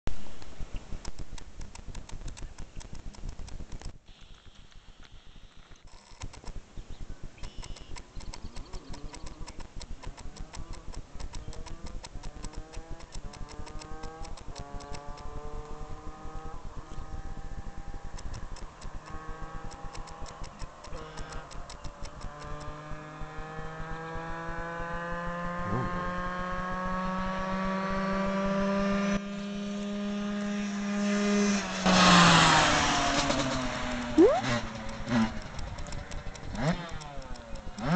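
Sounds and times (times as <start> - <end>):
dirt bike engine at full throttle: 0.1 - 37.9.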